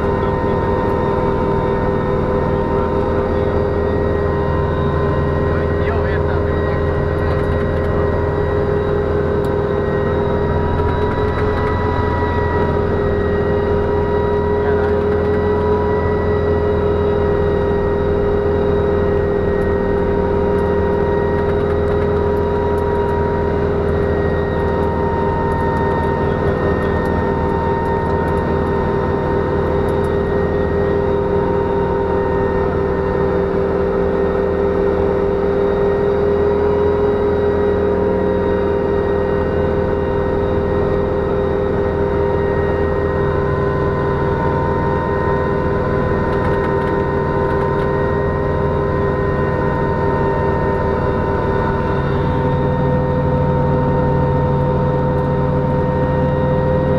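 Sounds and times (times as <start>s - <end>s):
helicopter engines droning: 0.0s - 56.9s
siren-like cooling fan whine: 0.0s - 56.9s.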